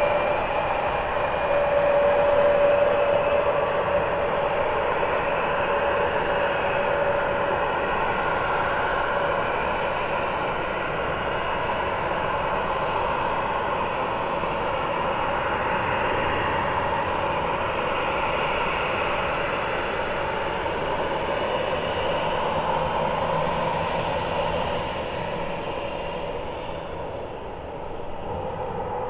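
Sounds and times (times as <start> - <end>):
jet engines at taxi power: 0.0 - 29.0.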